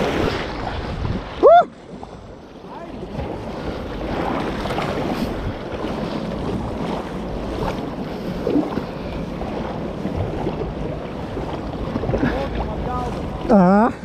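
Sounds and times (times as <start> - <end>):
water moving around kayak: 0.0 - 14.0
wind buffeting microphone: 0.0 - 14.0.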